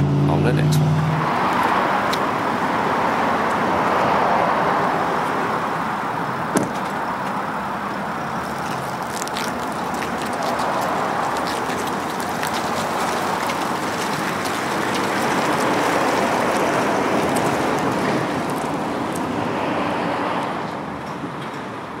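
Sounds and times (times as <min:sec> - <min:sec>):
truck driving on pavement: 0:00.0 - 0:22.0.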